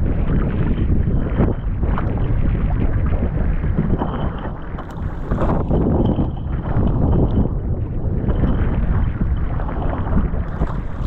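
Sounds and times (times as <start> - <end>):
choppy sea water rushing: 0.0 - 11.0
wind buffeting microphone: 0.0 - 11.0.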